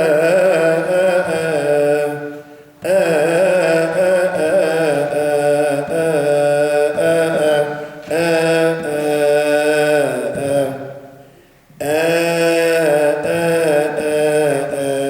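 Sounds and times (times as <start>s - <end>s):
person chanting a hymn: 0.0s - 15.0s.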